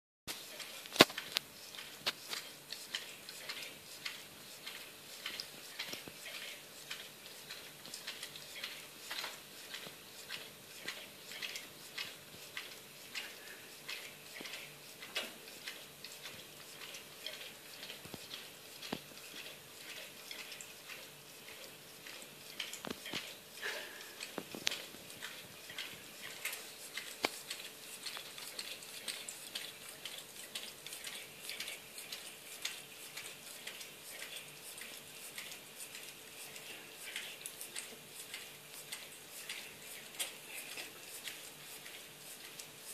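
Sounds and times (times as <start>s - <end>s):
dog licking fur: 0.5s - 42.9s.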